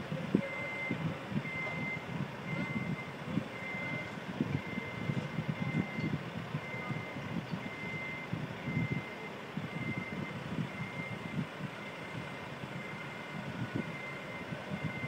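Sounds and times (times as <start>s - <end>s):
heavy vehicle engines rumbling: 0.0s - 15.0s
backup alarm beeping: 0.4s - 15.0s.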